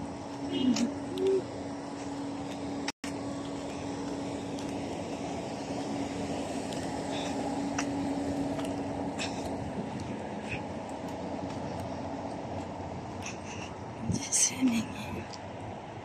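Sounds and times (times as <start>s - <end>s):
constant hum: 0.0s - 16.0s
low street rumble: 0.0s - 16.0s.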